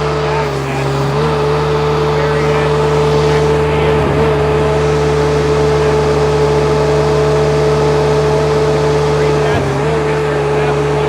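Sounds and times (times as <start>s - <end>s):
small diesel engine running: 0.0s - 11.0s
steady whine: 0.0s - 11.0s.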